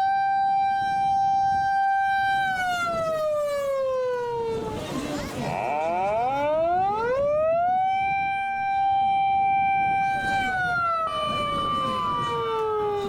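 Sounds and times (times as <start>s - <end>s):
fire engine siren wailing: 0.0s - 13.0s
high steady siren tone: 0.0s - 13.0s.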